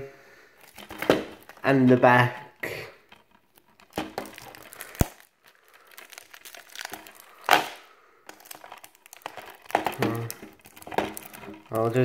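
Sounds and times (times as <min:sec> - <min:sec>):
plastic wrapping crinkling: 0:00.5 - 0:12.0
sharp plastic crack: 0:00.6 - 0:12.0.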